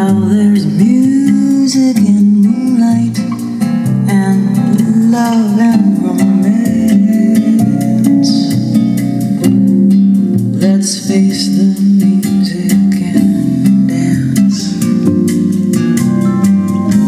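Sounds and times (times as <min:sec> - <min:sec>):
guitar-led instrumental music: 0:00.0 - 0:17.0.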